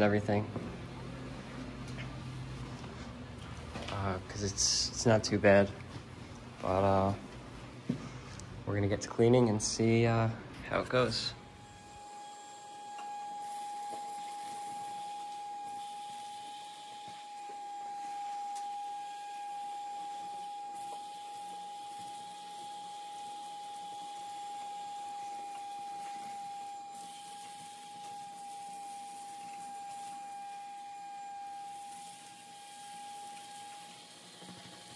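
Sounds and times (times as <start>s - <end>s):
shop vacuum running: 0.0s - 34.9s.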